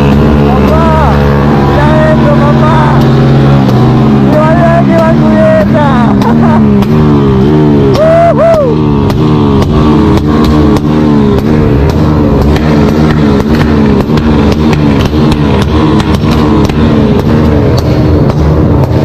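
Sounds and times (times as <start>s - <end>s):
engine bouncing off rev limiter: 0.0s - 19.0s.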